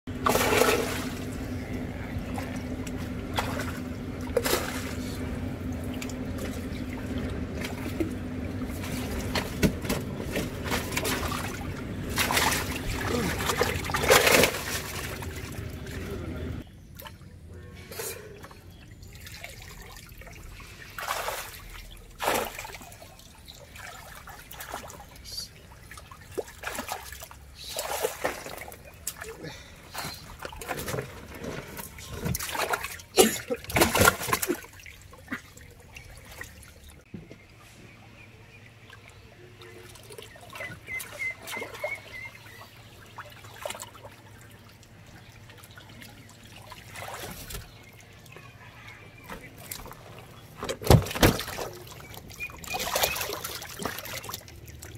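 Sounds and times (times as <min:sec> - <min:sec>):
water splashing and trickling: 0:00.1 - 0:54.9.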